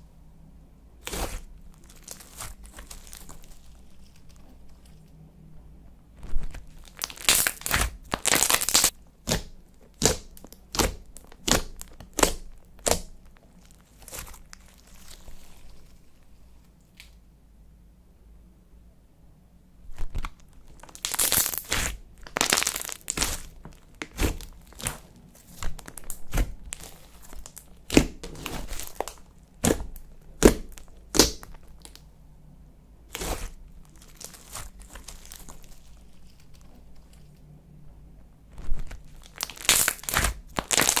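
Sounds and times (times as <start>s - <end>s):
slime kneaded by hand crackling: 1.0s - 5.1s, 6.1s - 17.0s, 19.9s - 32.1s, 33.1s - 37.4s, 38.5s - 41.0s.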